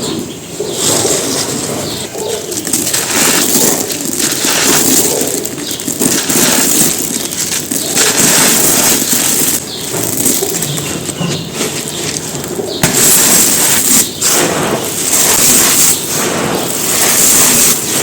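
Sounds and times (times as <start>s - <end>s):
cement chunks crunching: 0.6s - 18.0s.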